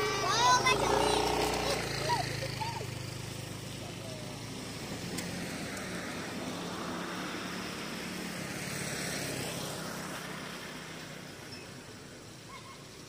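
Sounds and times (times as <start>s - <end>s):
car passing: 0.0s - 12.8s.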